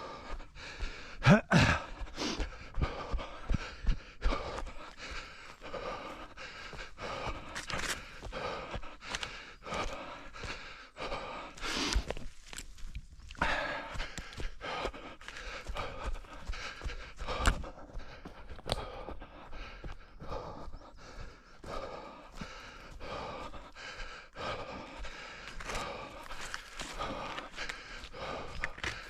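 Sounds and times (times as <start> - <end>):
runner panting: 0.0 - 29.0.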